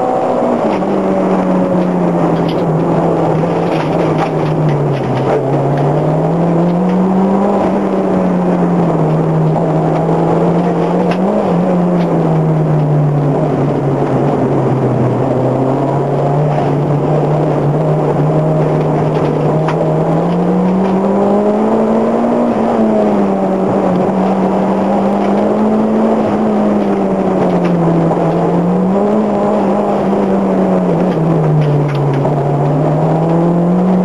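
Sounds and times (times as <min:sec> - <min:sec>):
car engine pulling hard: 0:00.0 - 0:34.0
road and wind noise: 0:00.0 - 0:34.0.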